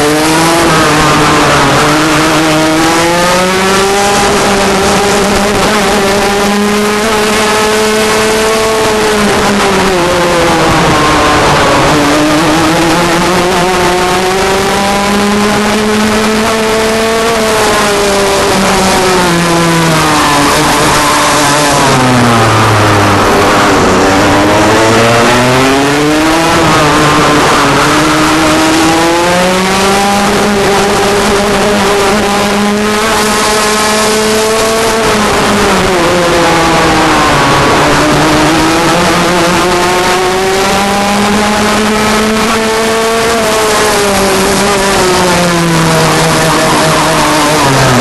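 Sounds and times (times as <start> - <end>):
kart engine revving: 0.0 - 48.0.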